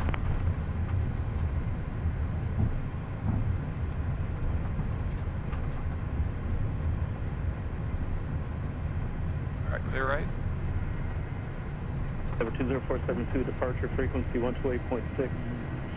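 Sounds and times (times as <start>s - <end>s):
low rumble inside aircraft cockpit: 0.0s - 15.9s.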